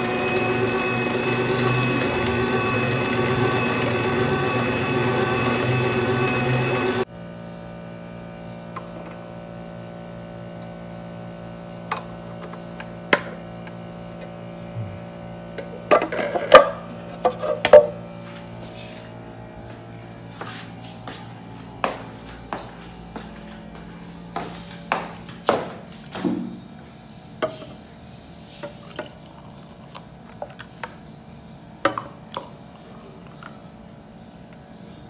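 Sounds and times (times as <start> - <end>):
juicer motor humming: 0.0 - 26.2, 28.4 - 34.9.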